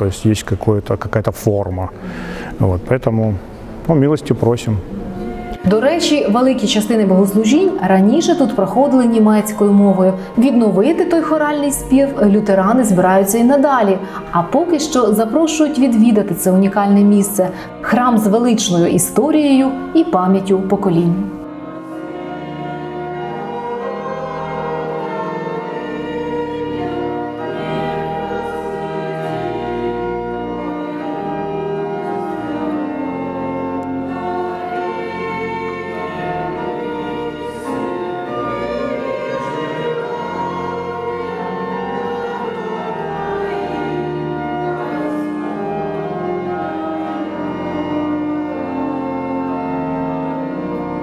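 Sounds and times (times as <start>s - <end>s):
sustained instrumental accompaniment: 0.0s - 51.0s
choir singing held chords: 1.6s - 51.0s.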